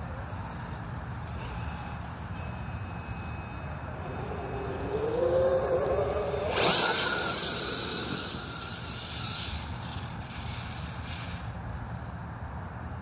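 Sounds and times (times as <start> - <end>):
electric motor whine: 0.0 - 11.2.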